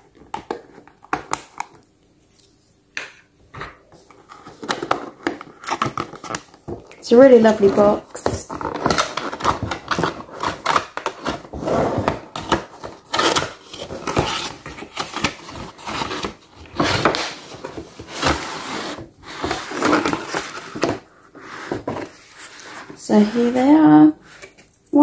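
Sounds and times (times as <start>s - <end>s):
cardboard packaging rustling: 3.9s - 24.7s.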